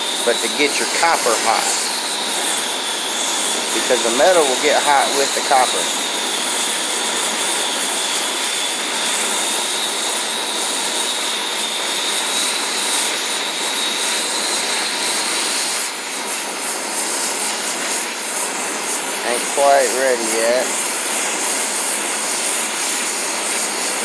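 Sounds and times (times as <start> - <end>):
torch flame hissing: 0.0 - 24.0.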